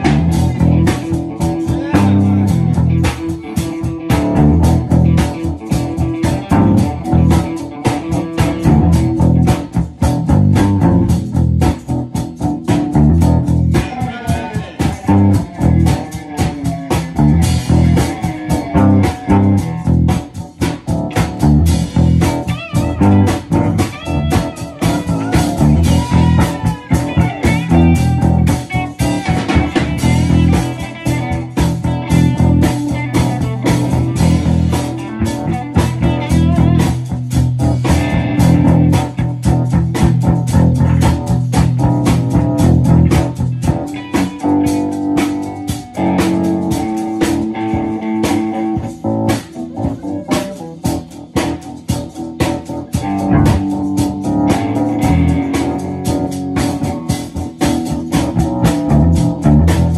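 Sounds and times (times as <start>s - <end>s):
drum hits: 0.0s - 51.8s
live band jamming: 0.0s - 59.9s.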